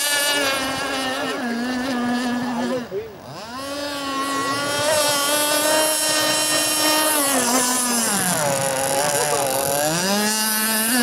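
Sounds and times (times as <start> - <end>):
model boat engine at high revs: 0.0 - 11.0.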